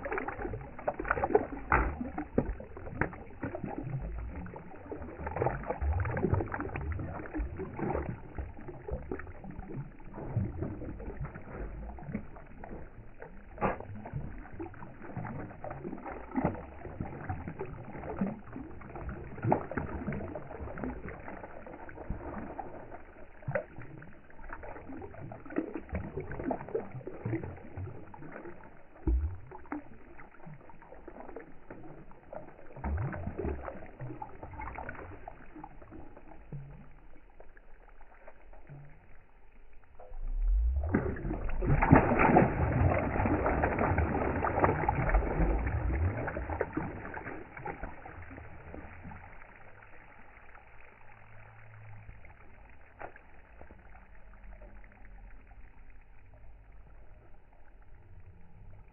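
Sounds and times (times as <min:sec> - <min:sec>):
fish splashing in water: 0:00.0 - 0:54.7.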